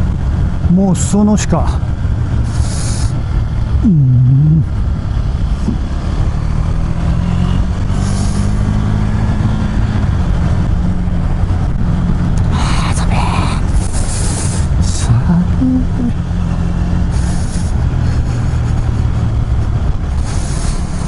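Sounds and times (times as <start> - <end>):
motorcycle engine cruising: 0.0 - 12.8, 13.6 - 21.0.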